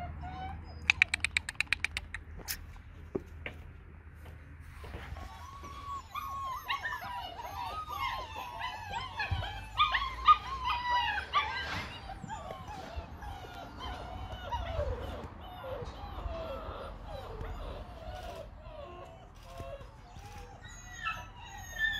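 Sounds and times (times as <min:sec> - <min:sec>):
puppy whining: 0:00.0 - 0:02.1, 0:04.9 - 0:21.9.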